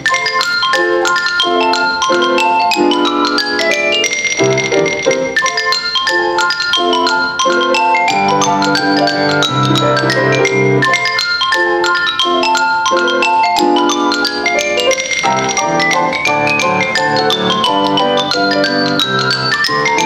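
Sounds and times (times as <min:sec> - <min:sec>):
piano chords: 0:00.0 - 0:20.0
xylophone solo: 0:00.0 - 0:20.0.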